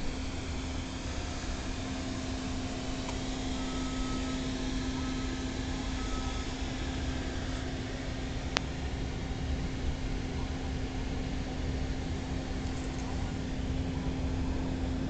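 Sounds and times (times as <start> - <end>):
blower fan humming: 0.0 - 15.0.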